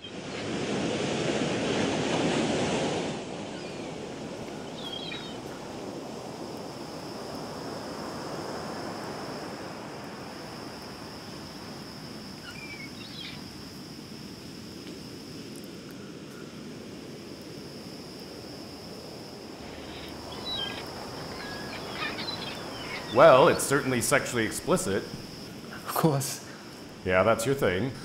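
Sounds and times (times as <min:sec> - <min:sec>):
steady hiss: 0:03.0 - 0:28.0.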